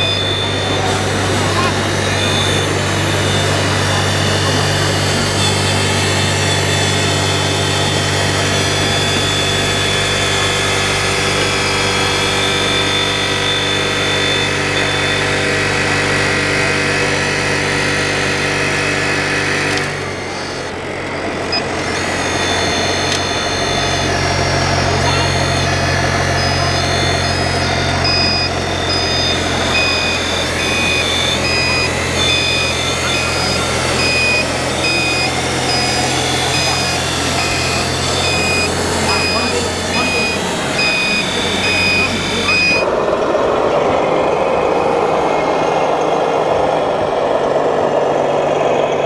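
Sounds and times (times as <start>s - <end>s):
high-pitched whine: 0.0s - 49.0s
model truck engine drone: 0.0s - 49.0s.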